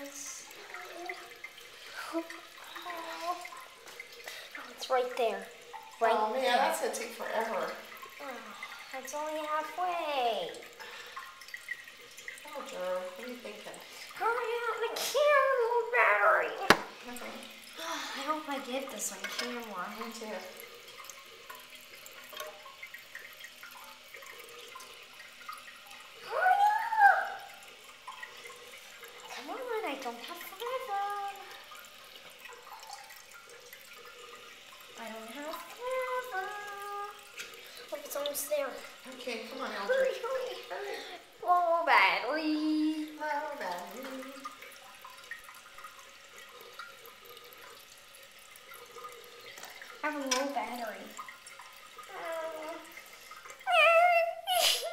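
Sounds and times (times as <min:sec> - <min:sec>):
toilet tank refilling: 0:00.0 - 0:54.9.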